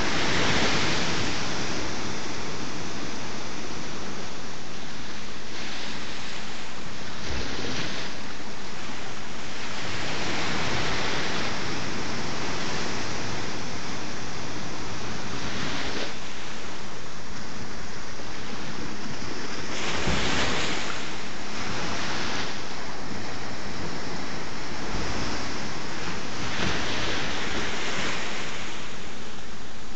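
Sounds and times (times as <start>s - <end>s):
sea waves washing against rocks: 0.0s - 29.9s.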